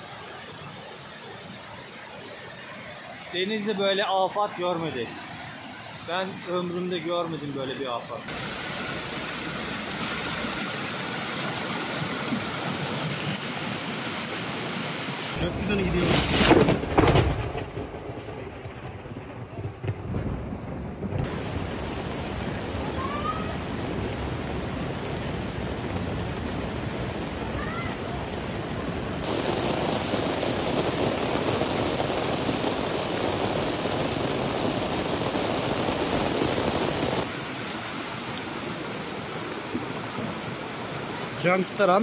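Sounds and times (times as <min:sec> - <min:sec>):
rushing floodwater: 0:00.0 - 0:16.9, 0:21.2 - 0:42.0
heavy rain: 0:00.0 - 0:42.0.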